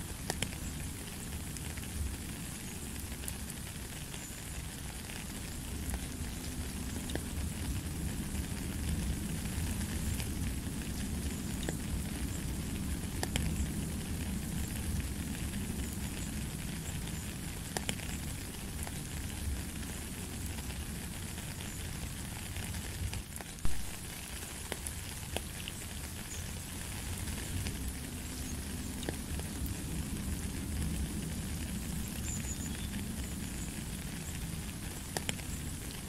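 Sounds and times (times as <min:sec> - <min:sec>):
rain falling on gravel: 0:00.0 - 0:36.0.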